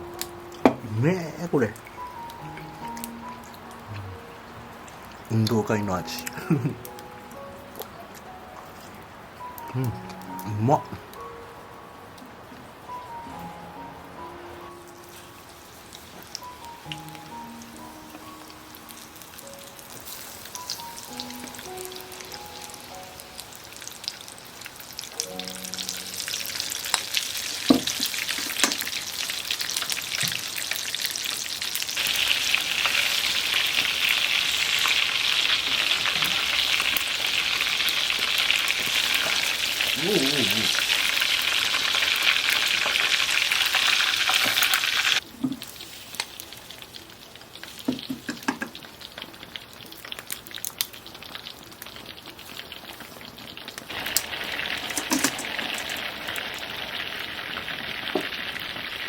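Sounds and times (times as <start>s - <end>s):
food sizzling in hot oil: 0.0s - 10.8s, 14.8s - 59.0s.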